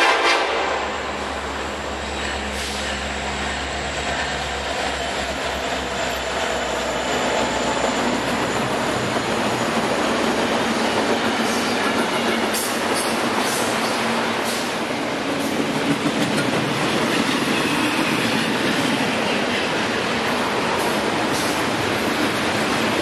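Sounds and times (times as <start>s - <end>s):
diesel locomotive hum: 0.0s - 23.0s
freight cars rolling on rails: 0.0s - 23.0s.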